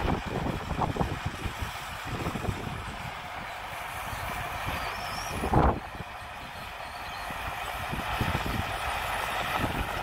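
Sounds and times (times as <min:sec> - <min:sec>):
bulldozer diesel engine under load: 0:00.0 - 0:10.0
steel tracks clattering: 0:00.0 - 0:10.0.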